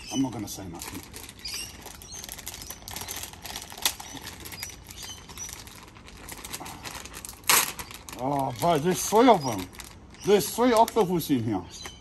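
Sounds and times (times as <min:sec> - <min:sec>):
plastic packet crinkling: 0:00.3 - 0:11.3.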